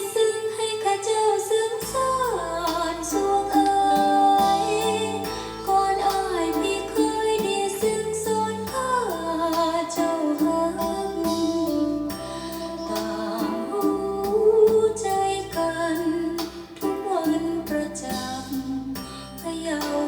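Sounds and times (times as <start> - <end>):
song with vocals over instruments: 0.0 - 20.0.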